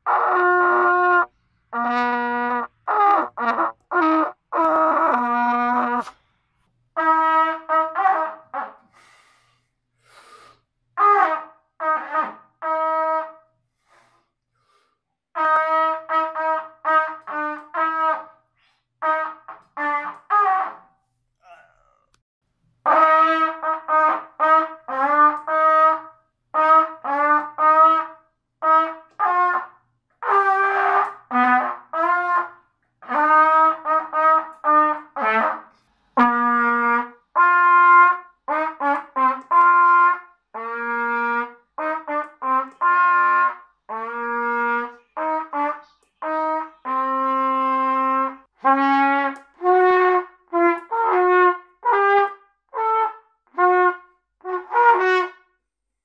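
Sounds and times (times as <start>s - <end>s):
trumpet playing simple melodies: 0.0s - 9.2s, 11.0s - 20.9s, 22.8s - 55.5s.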